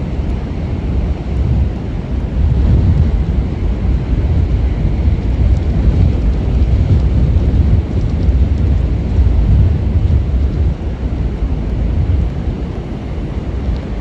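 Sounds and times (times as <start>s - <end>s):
storm wind buffeting microphone: 0.0s - 14.0s.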